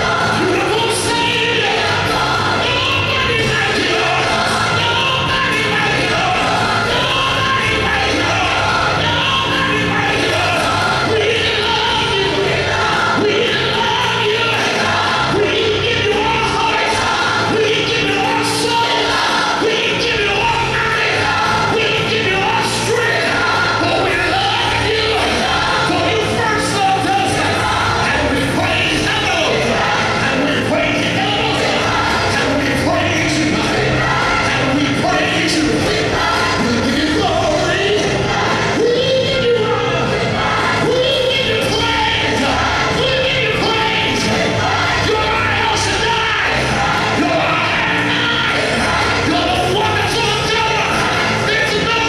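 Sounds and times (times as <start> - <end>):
band accompaniment: 0.0 - 52.0
choir singing: 0.0 - 52.0
live backing music: 0.0 - 52.0.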